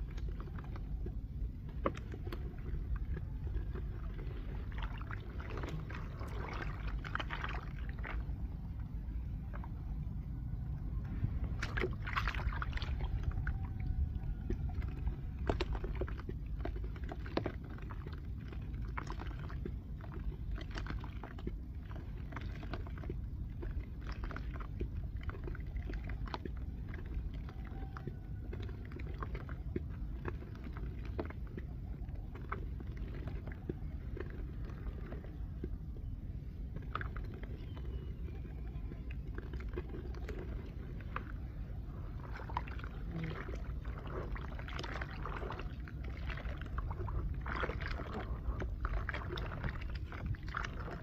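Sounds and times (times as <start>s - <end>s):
low rumble: 0.0s - 51.0s.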